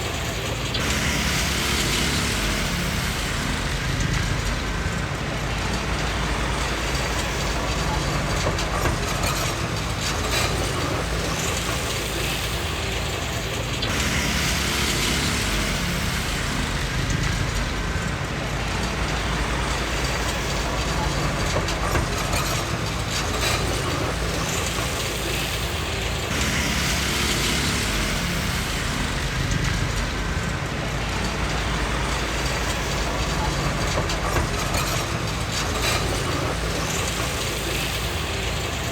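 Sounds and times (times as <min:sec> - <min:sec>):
bulldozer diesel engine running: 0:00.0 - 0:38.9
steel tracks clanking: 0:00.0 - 0:38.9.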